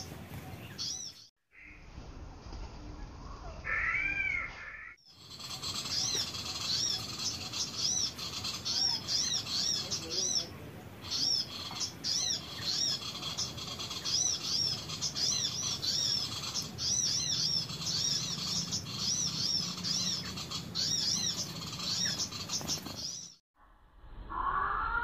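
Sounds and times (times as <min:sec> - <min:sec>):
small birds chirping: 0:00.0 - 0:01.9, 0:03.0 - 0:23.4.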